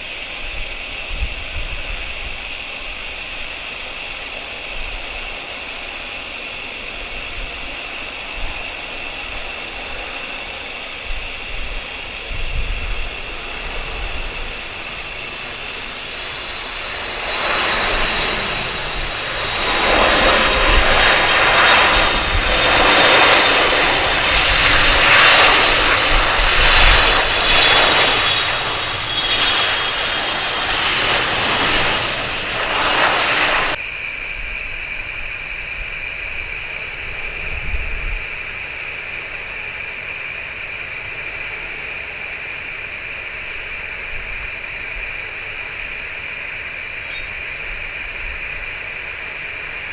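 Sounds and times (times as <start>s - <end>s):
jet engines whining: 0.0s - 49.9s.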